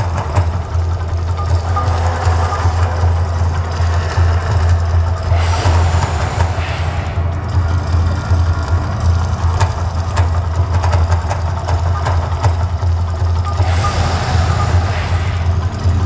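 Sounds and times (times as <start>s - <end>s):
deep rumble from loudspeakers: 0.0s - 16.0s.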